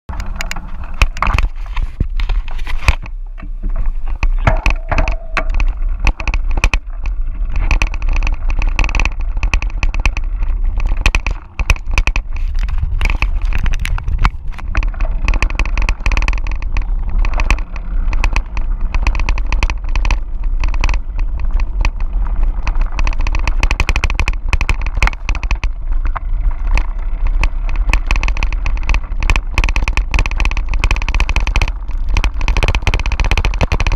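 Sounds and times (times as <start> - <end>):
bike rattling: 0.0 - 33.9
wind on microphone: 0.1 - 33.9
tyres crunching on gravel: 0.2 - 33.9.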